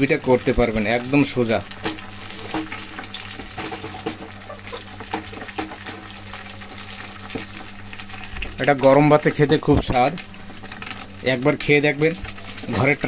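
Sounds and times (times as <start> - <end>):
egg sizzling in hot oil: 0.0 - 13.0.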